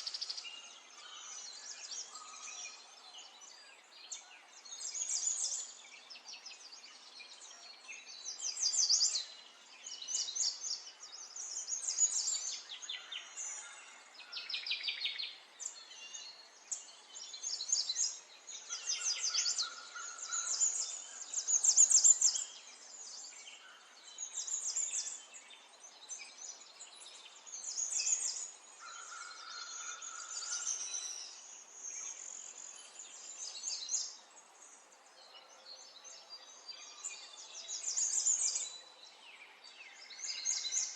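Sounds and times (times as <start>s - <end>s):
songbirds trilling: 7.7s - 40.9s.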